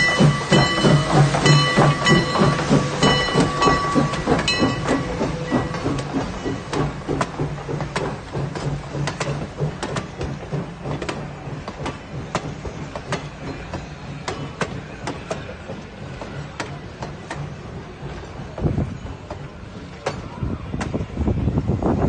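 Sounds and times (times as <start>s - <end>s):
train wheels clicking over rail joints: 0.0s - 22.0s.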